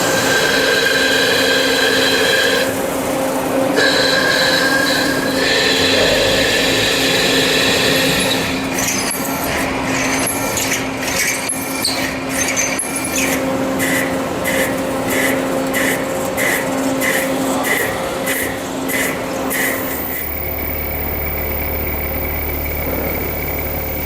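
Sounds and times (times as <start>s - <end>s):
steady machine hum: 0.0s - 11.1s, 13.3s - 24.0s
metal cutting noise: 0.0s - 24.0s
regular mechanical pulsing: 0.0s - 24.0s.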